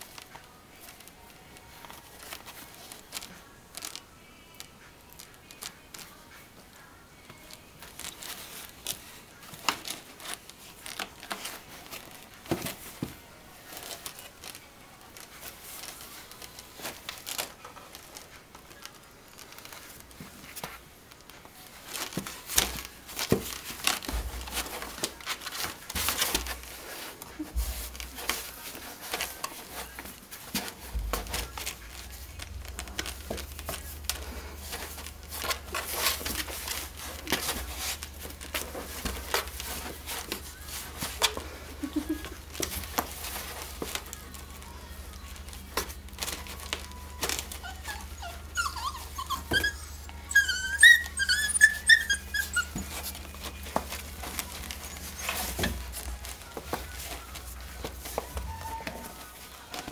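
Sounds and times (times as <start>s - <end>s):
close rustling and crinkling: 0.0s - 59.9s.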